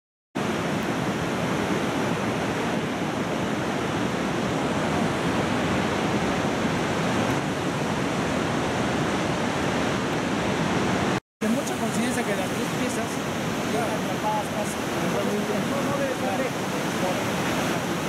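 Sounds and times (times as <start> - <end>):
rushing river water: 0.4 - 18.0.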